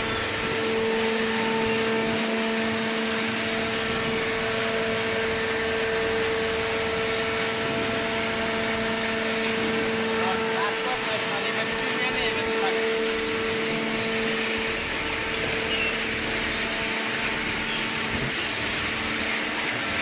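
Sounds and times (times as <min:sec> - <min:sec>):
hydraulic pump motor humming: 0:00.0 - 0:20.0.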